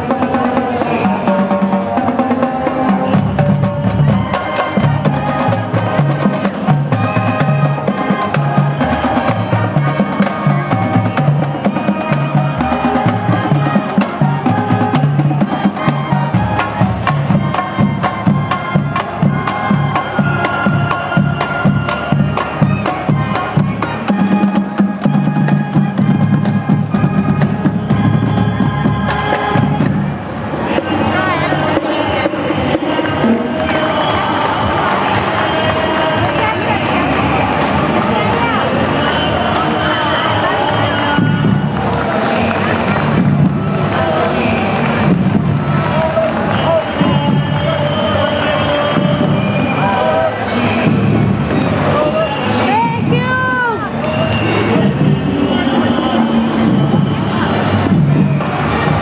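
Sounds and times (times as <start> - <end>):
brass melody: 0.0 - 59.0
marching drumline: 0.0 - 59.0.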